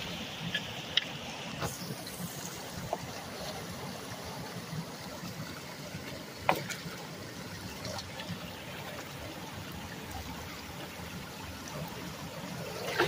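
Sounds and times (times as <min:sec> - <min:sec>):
water trickling through culvert: 0:00.0 - 0:13.0.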